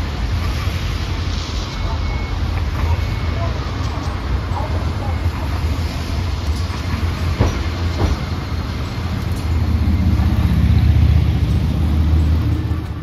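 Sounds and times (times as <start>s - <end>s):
tram rumbling along the track: 0.0s - 13.0s.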